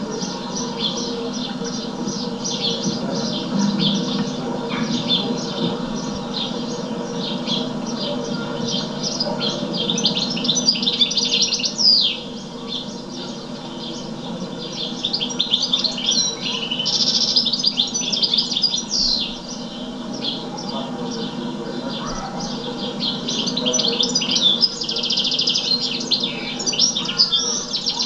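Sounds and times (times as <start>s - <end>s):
songbirds chirping: 0.0s - 28.0s
steady low hum: 0.0s - 28.0s.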